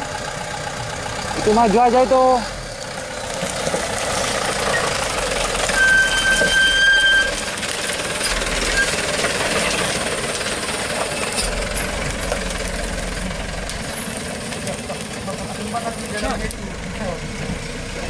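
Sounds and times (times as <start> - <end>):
truck engine running: 0.0 - 18.0
rattling mechanical noise: 2.9 - 18.0.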